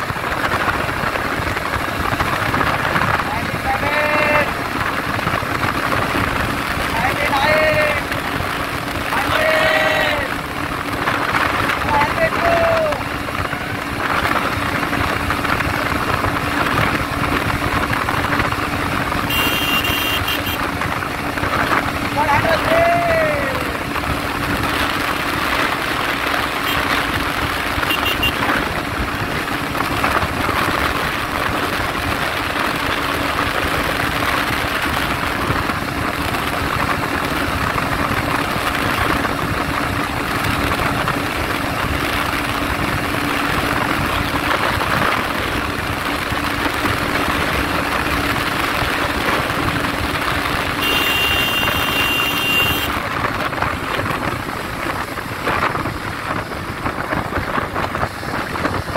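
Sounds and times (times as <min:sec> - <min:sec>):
motorcycle engine running hard: 0:00.0 - 0:58.9
wind rush on microphone: 0:00.0 - 0:58.9.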